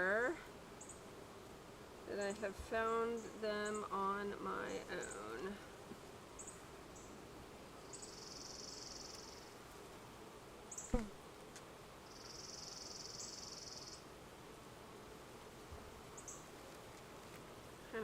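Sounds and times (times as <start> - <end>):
bees humming: 0.0 - 18.0.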